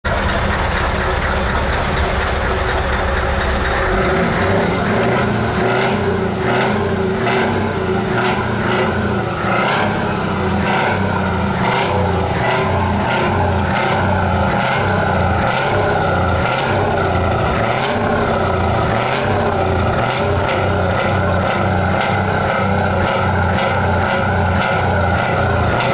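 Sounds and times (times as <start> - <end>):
diesel truck engine rumbling: 0.0 - 25.9.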